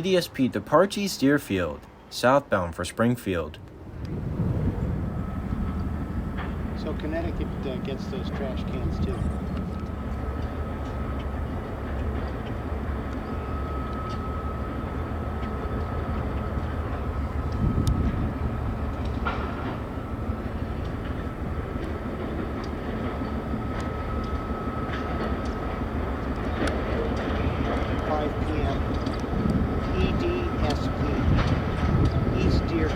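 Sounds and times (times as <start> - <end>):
freight train cars rolling past: 3.6 - 32.9
high whine: 3.6 - 32.9.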